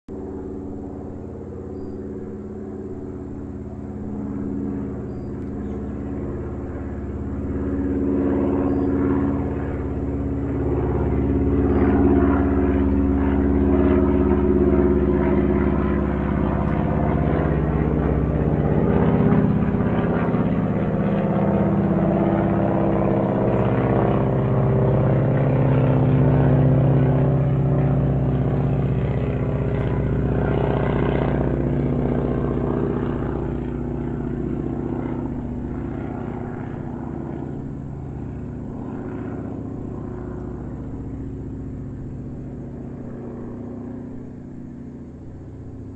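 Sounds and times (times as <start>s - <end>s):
airplane engine drone: 0.1s - 45.9s.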